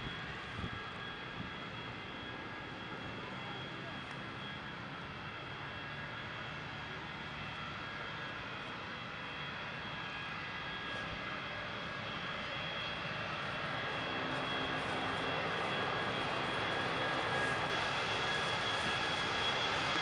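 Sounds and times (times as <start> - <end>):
jet airliner taxiing: 0.0 - 20.0.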